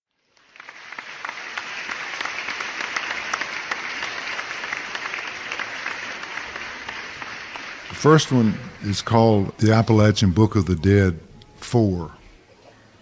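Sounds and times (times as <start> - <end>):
audience applause: 0.2 - 11.0.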